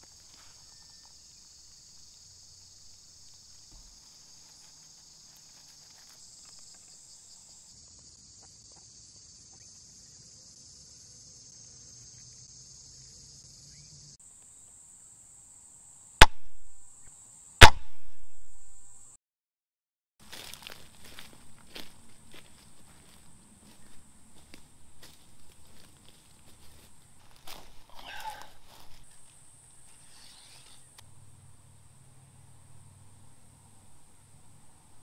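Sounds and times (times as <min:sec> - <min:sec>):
insects chirring: 0:00.0 - 0:19.2, 0:20.2 - 0:35.0.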